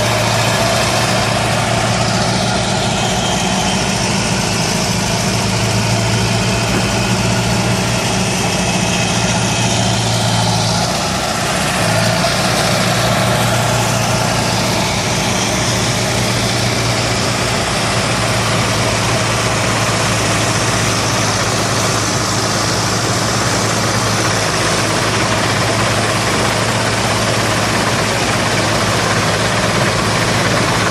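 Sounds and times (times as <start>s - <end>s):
excavator diesel engine running: 0.0s - 30.9s
machinery noise: 0.0s - 30.9s.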